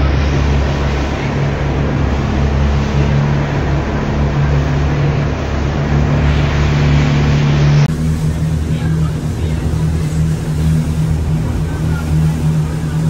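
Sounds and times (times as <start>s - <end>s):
boat engines droning: 0.0s - 13.0s
water rushing against hull: 0.0s - 13.0s.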